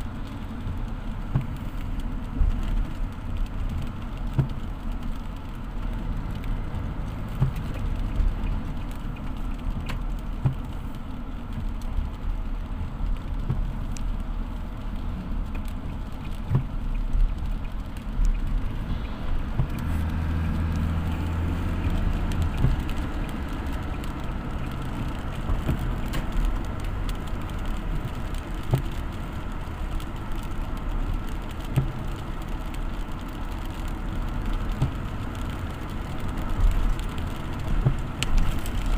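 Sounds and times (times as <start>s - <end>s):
rain knocks and patter: 0.0s - 38.9s
vehicle engine and road rumble: 0.0s - 38.9s.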